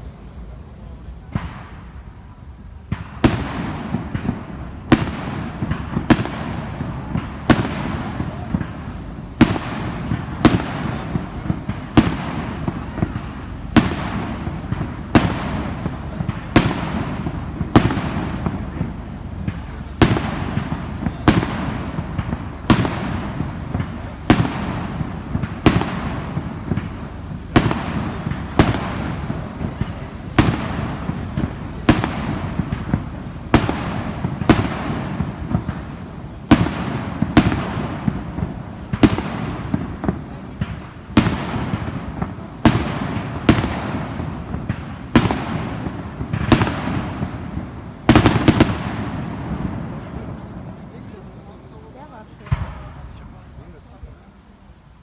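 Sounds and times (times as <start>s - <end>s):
constant noisy background: 0.0s - 55.0s
fireworks bangs: 0.0s - 55.0s.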